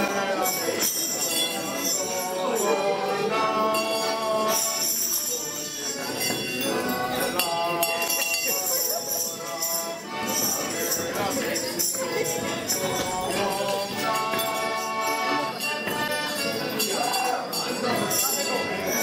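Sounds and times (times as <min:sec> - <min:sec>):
accordion folk music: 0:00.0 - 0:19.0
jingle bells shaken: 0:00.0 - 0:19.0.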